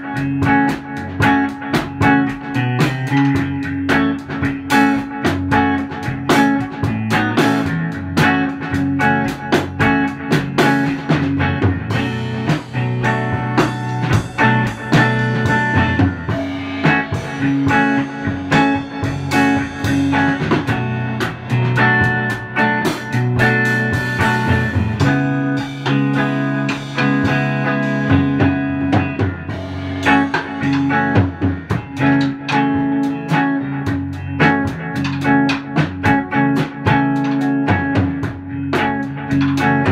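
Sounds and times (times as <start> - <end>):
drum kit: 0.0 - 39.9
electric guitar playing quick notes: 0.0 - 39.9.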